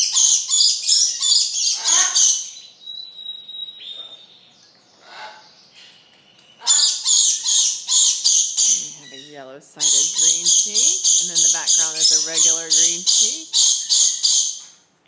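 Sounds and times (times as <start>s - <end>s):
canary singing trills: 0.0s - 14.8s.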